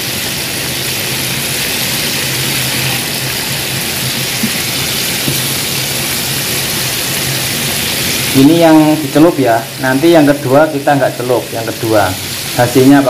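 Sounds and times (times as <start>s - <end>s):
deep-frying sizzle in oil: 0.0s - 13.0s.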